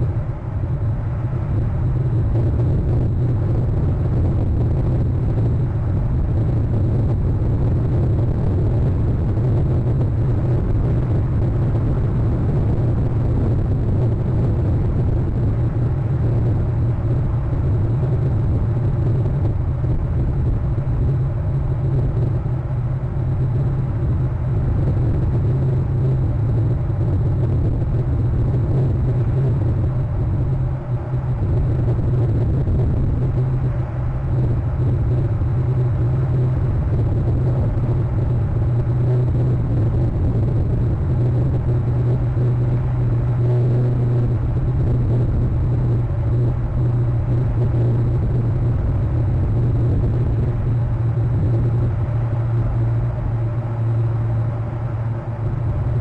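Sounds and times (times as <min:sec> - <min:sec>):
faint high whine: 0:00.0 - 0:56.0
steady low rumbling: 0:00.0 - 0:56.0.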